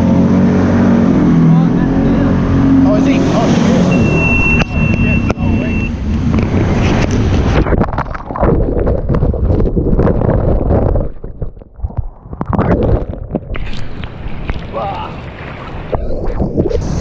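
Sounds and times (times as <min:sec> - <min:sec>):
wind buffeting microphone: 0:00.4 - 0:17.0.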